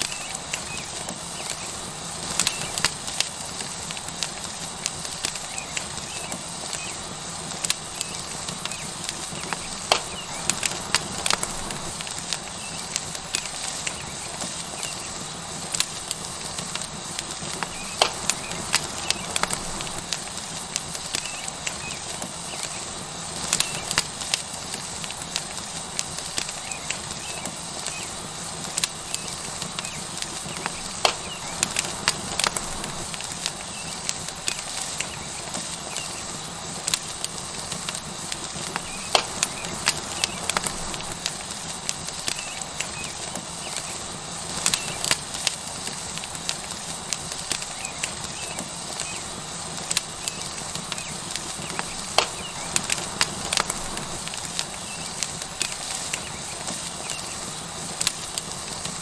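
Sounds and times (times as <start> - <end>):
steak sizzling on hot rock: 0.0 - 59.0
wood fire pops and crackles: 0.0 - 59.0.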